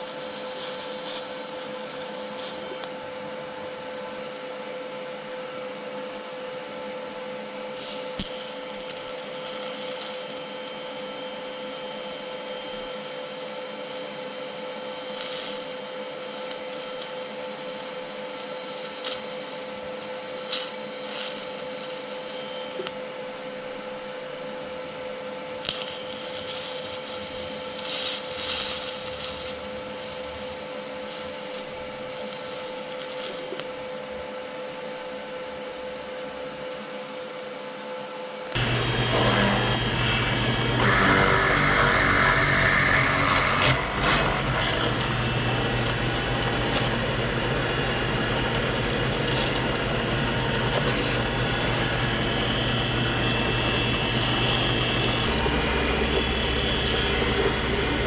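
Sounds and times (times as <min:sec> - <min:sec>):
steady machine hum: 0:00.0 - 0:36.9, 0:38.2 - 0:58.0.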